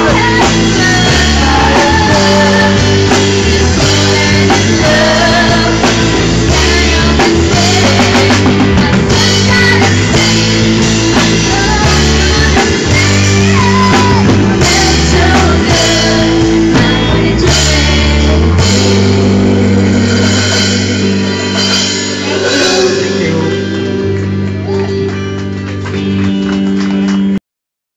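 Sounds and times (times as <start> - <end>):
drum strikes: 0.0 - 24.6
live rock band playing: 0.0 - 27.4.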